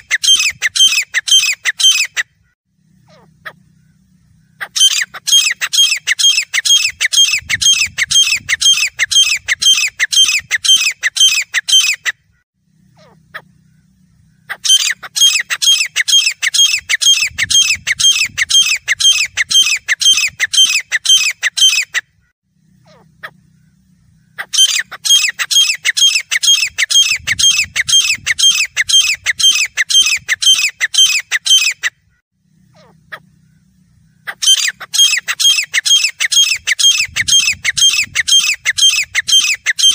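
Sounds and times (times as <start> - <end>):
francolin calling: 0.0 - 22.0, 22.6 - 39.9.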